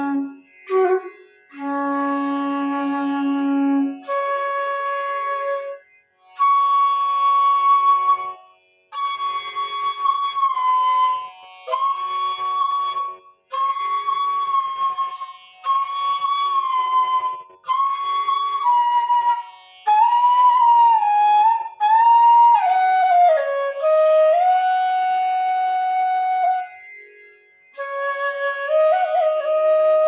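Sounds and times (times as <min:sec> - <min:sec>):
bamboo flute playing: 0:00.0 - 0:30.0
faint tanpura drone: 0:00.0 - 0:30.0.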